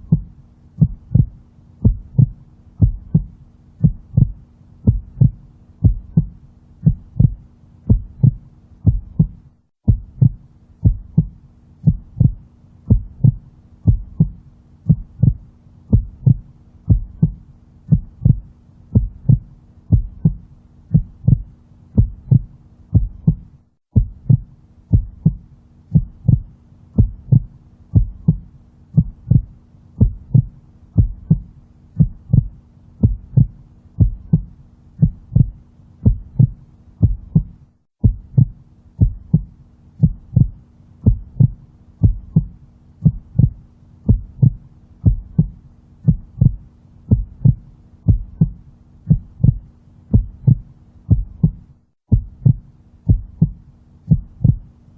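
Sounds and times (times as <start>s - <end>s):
heartbeat thumps: 0.0s - 54.7s
faint steady hum: 0.0s - 54.9s.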